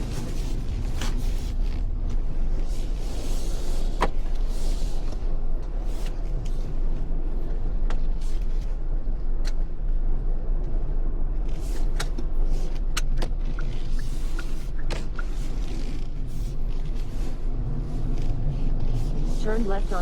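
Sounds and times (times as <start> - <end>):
car interior driving rumble: 0.0 - 20.0.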